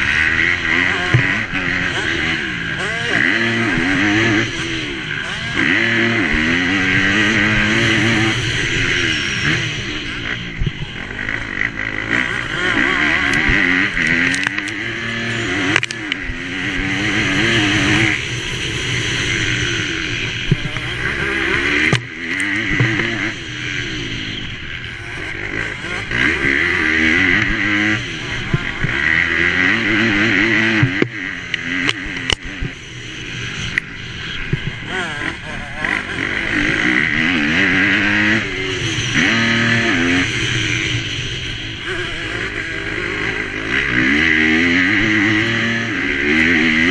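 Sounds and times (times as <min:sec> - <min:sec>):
motocross bike engine racing: 0:00.0 - 0:46.9.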